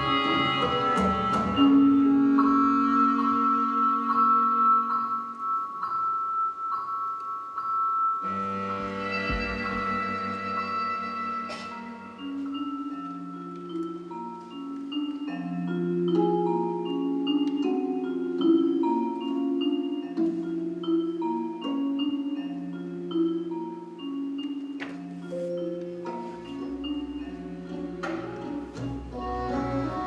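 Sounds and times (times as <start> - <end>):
slow instrumental music: 0.0 - 30.0.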